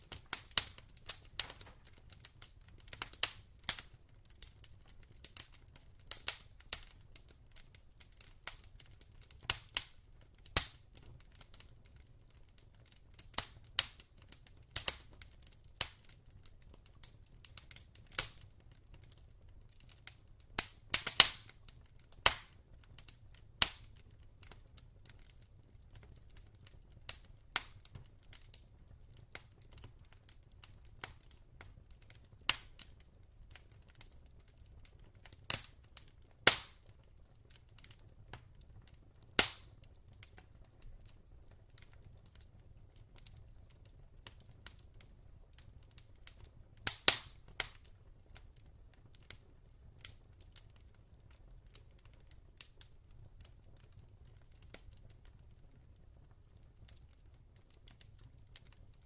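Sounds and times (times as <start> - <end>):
log fire crackling and popping: 0.0 - 59.0.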